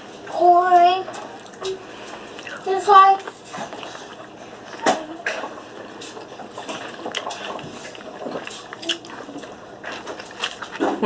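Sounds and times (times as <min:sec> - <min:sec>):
wet chewing and lip smacking: 0:01.2 - 0:11.0.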